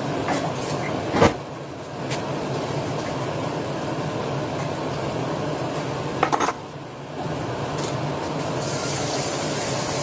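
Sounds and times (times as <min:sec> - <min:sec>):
fan-like hum: 0:00.0 - 0:10.0.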